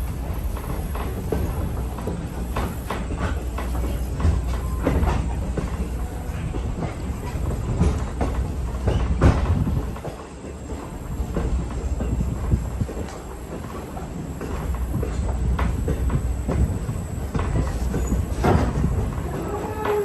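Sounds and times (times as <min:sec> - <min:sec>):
train rumbling on track: 0:00.0 - 0:20.0
wheels clacking over rail joints: 0:00.0 - 0:20.0.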